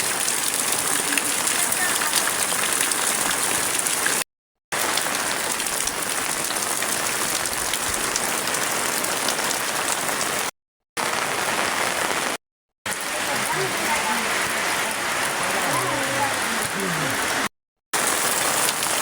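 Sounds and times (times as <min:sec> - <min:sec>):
heavy rain falling: 0:00.0 - 0:04.2, 0:04.8 - 0:19.0.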